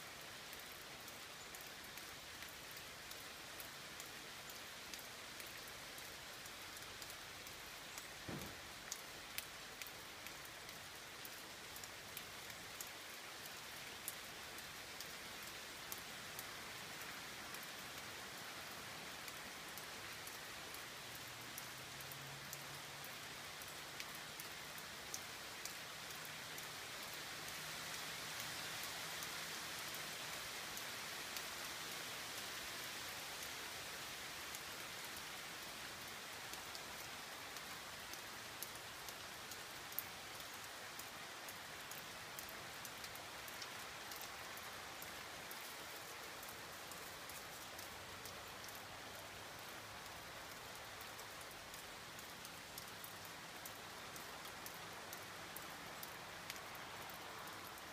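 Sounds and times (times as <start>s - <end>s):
steady rain with drop ticks: 0.0s - 57.9s.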